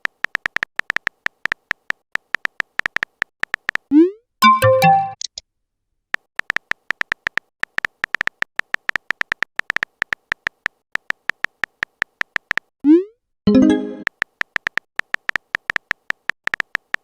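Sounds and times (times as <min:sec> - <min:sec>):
keyboard typing clicks: 0:00.0 - 0:05.4, 0:06.4 - 0:12.7, 0:13.5 - 0:17.0.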